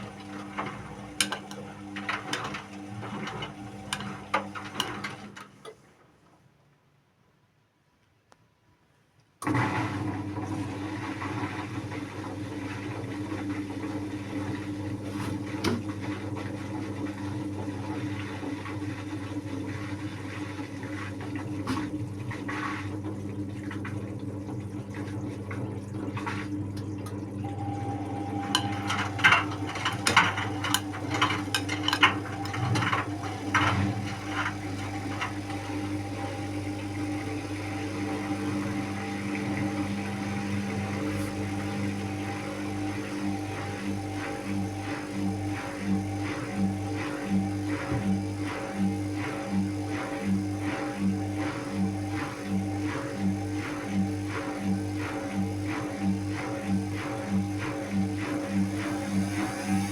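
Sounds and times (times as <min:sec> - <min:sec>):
washing machine motor hum: 0:00.0 - 0:06.3, 0:09.4 - 0:59.9.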